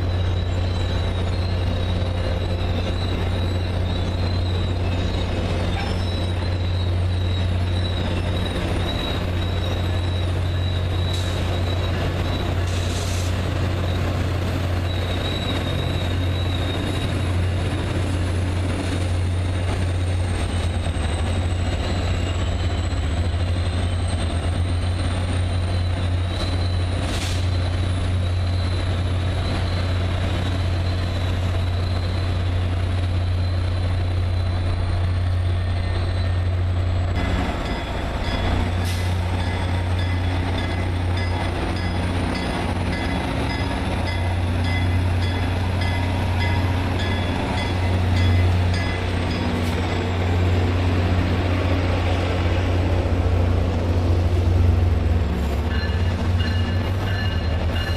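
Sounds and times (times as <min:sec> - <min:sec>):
train engine drone: 0:00.0 - 0:57.9.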